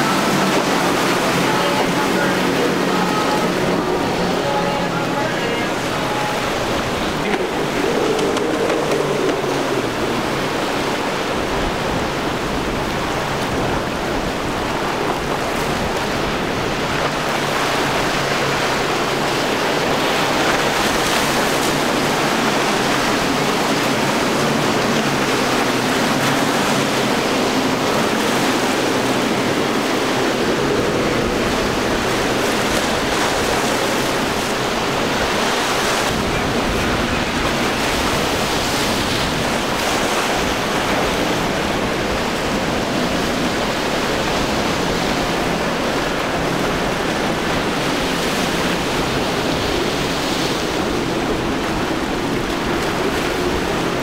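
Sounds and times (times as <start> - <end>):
outboard engines humming: 0.0 - 54.0
surf and churning water: 0.0 - 54.0
wind on microphone: 0.0 - 54.0.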